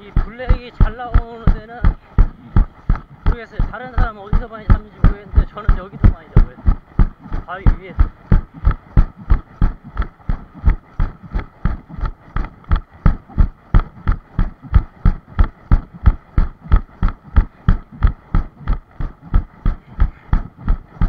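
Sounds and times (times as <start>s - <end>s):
footsteps on rock: 0.0s - 21.0s.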